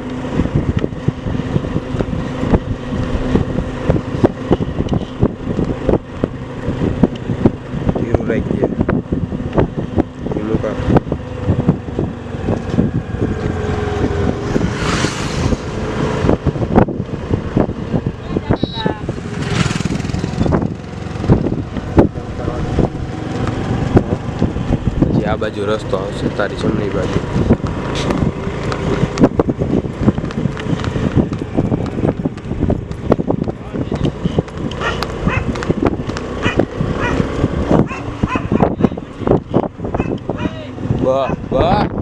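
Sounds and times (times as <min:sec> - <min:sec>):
vehicle motor running: 0:00.0 - 0:42.0
wind buffeting microphone: 0:00.0 - 0:42.0.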